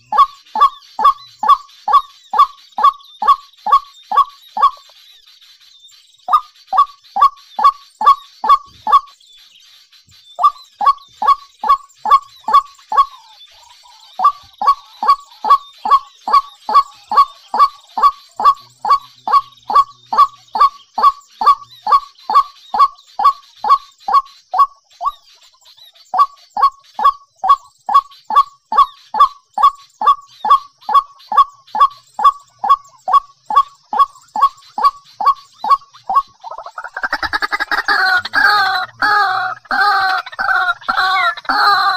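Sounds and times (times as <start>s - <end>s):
bird calling in fast series: 0.0s - 41.9s
faint high chirping of small birds: 0.0s - 41.9s.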